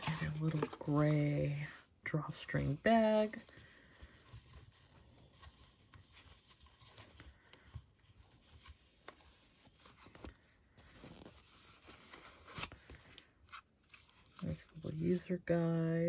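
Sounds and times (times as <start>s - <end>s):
soft rustling of cloth bag: 0.0s - 15.4s.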